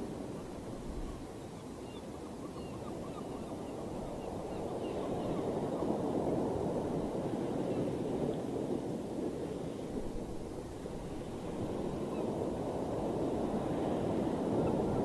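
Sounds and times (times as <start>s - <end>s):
sea waves washing over shore: 0.0s - 1.7s, 3.5s - 15.0s.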